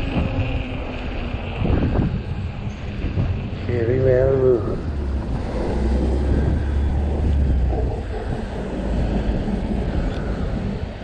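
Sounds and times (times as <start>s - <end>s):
deep low rumble of traffic: 0.0s - 11.0s
road noise: 0.0s - 11.0s
wind buffeting microphone: 0.0s - 11.0s.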